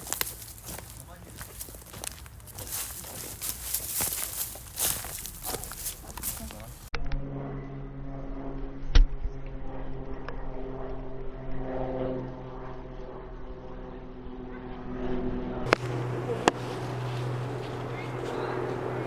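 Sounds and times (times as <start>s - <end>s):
low mechanical drone: 0.0s - 19.0s.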